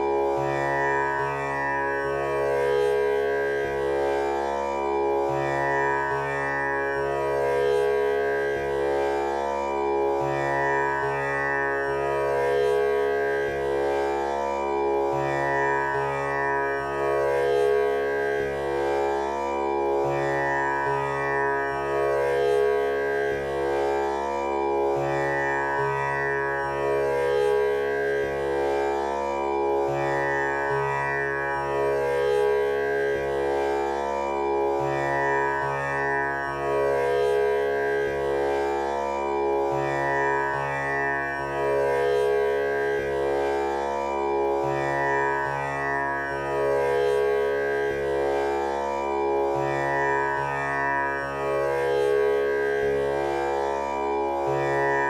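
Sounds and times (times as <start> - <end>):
tanpura drone: 0.0 - 55.0.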